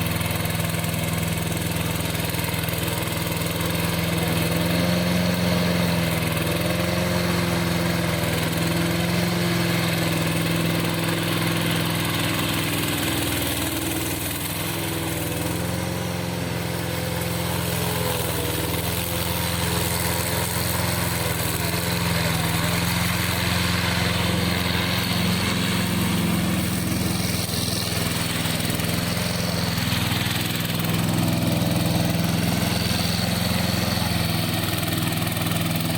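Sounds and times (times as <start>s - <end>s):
mower engine running: 0.0s - 35.9s.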